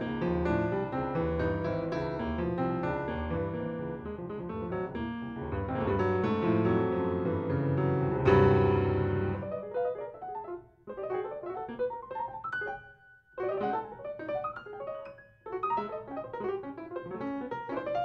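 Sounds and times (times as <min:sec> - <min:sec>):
grand piano chords: 0:00.0 - 0:18.0.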